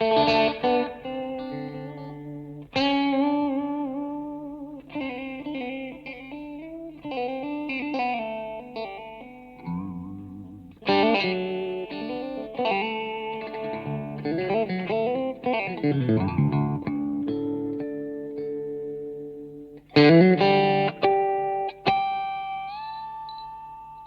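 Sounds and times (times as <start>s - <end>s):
guitar with effects playing: 0.0s - 24.0s.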